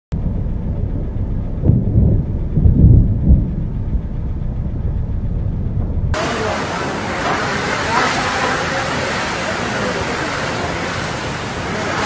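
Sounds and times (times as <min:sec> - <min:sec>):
thunder rumbling: 0:00.1 - 0:12.0.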